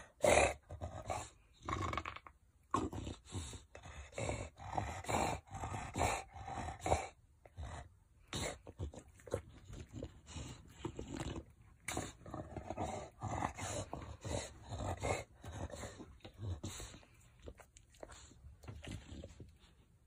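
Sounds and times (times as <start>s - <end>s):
dog breathing and grunting: 0.0s - 20.0s.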